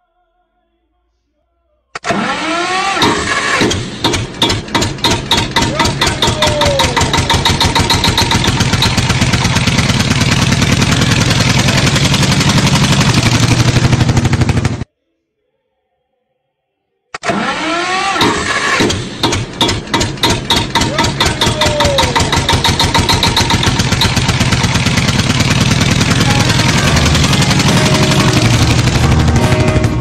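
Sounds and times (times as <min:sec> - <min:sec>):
engine starting: 0:02.0 - 0:14.8, 0:17.2 - 0:29.9.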